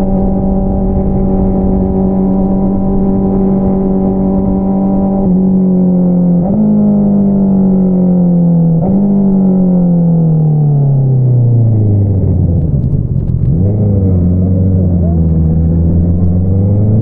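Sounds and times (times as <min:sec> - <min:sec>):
motorcycle downshifts: 0:00.0 - 0:17.0
motorcycle engine revving: 0:00.0 - 0:17.0.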